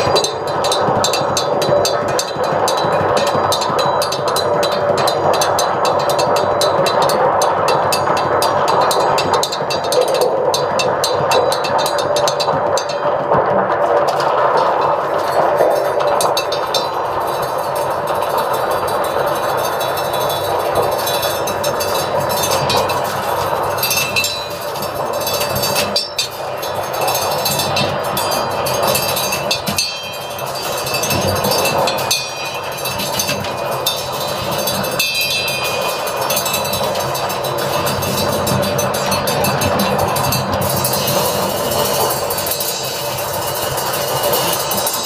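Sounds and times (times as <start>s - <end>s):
electronic noise wall: 0.0s - 45.0s.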